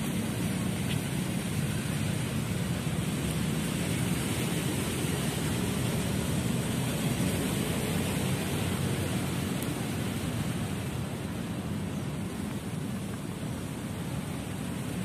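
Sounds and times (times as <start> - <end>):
steady outdoor rushing noise: 0.0 - 15.0.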